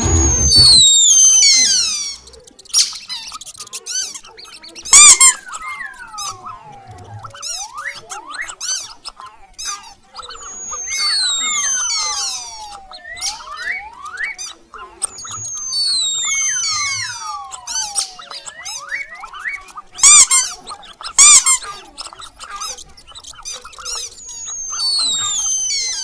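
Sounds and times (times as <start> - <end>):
sliding whistles: 0.0 - 4.0, 4.6 - 8.9, 10.2 - 21.7, 22.4 - 26.0
mouse squeaks and chirps: 0.0 - 26.0.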